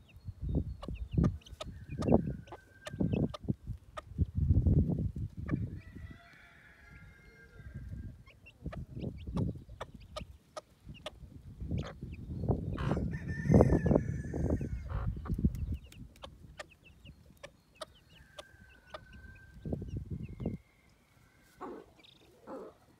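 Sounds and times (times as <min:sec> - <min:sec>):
chicks peeping: 0:00.0 - 0:20.6, 0:21.4 - 0:22.9
hen clucking: 0:00.7 - 0:04.3, 0:07.1 - 0:20.6, 0:21.4 - 0:22.9.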